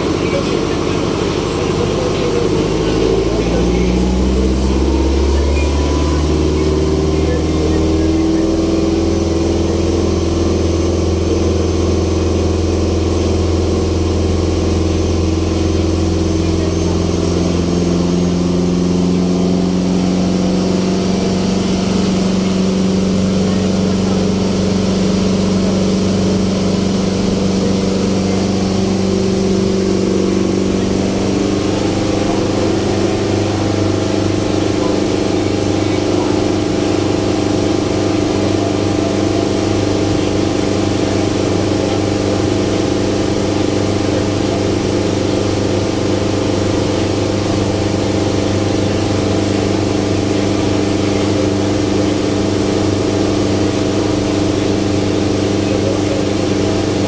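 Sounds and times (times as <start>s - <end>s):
ferry engine running: 0.0s - 57.0s.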